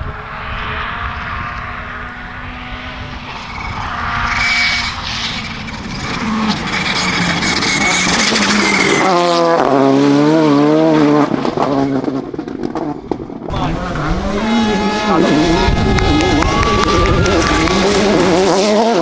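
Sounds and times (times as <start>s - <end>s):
rally car engine running hard: 0.0s - 19.0s.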